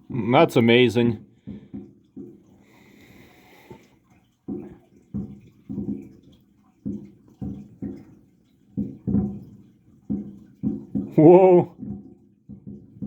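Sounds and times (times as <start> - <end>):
faint aquarium water noise: 0.0 - 13.0.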